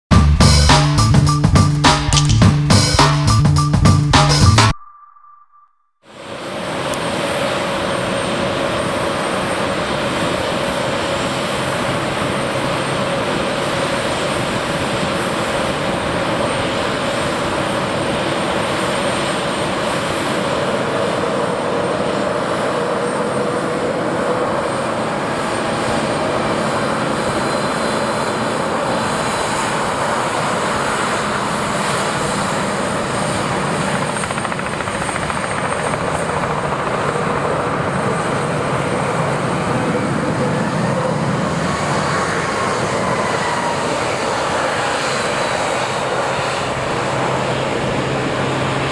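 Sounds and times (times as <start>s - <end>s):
jet engine noise: 6.2s - 48.9s.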